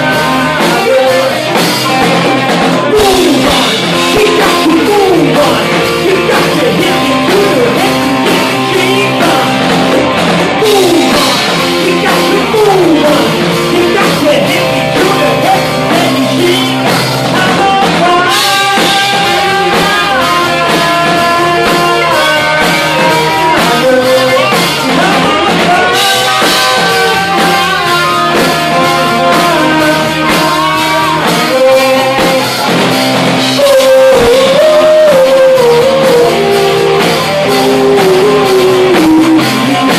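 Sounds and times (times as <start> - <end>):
drum kit: 0.0 - 39.9
guitar: 0.0 - 39.9
person singing: 0.0 - 39.9.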